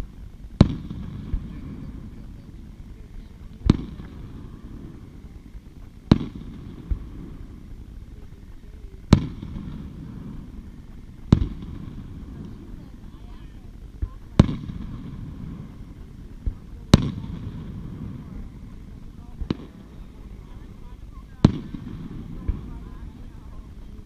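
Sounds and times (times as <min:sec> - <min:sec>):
distant firework booms: 0:00.0 - 0:24.0.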